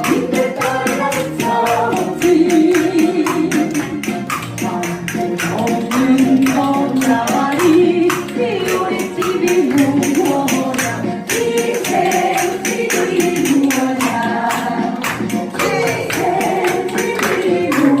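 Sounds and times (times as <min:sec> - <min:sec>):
pop song with backing music: 0:00.0 - 0:18.0
spoons clacking rhythmically: 0:00.0 - 0:18.0.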